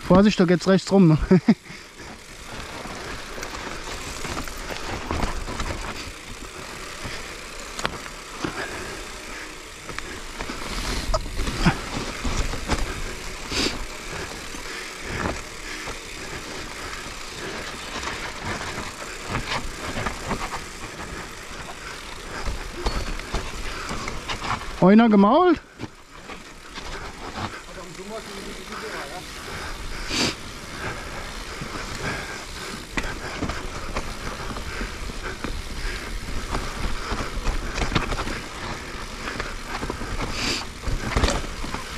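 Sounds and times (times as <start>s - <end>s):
bike tyres rolling on trail: 0.0s - 41.9s
bike knocking and rattling: 0.1s - 41.9s.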